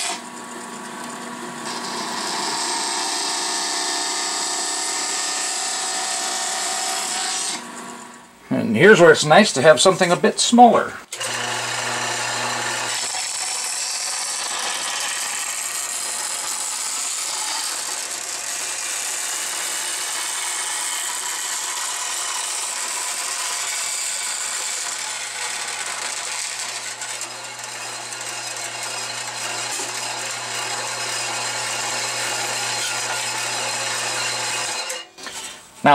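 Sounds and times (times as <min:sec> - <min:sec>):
bandsaw motor hum: 0:00.0 - 0:08.3, 0:10.0 - 0:35.6.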